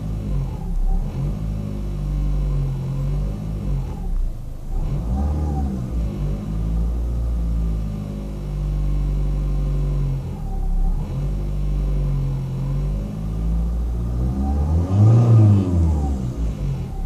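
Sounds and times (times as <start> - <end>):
car engine humming and revving: 0.0 - 17.0.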